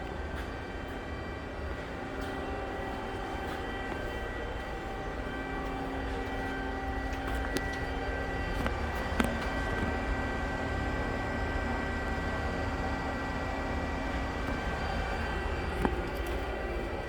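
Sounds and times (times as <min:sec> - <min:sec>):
hydraulic pump and motor humming: 0:00.0 - 0:17.0.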